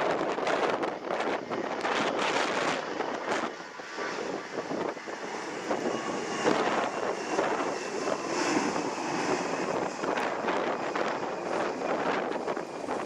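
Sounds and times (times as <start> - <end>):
faint aircraft engine whine: 0.0 - 13.0
wind gusting across microphone: 0.0 - 13.0.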